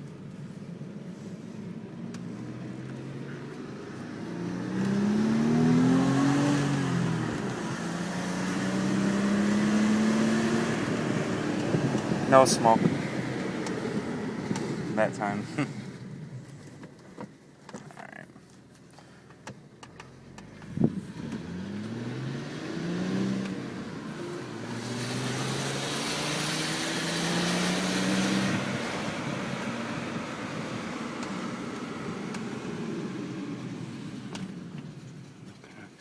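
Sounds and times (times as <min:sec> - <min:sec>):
car engine accelerating: 0:00.0 - 0:17.3, 0:19.4 - 0:36.0.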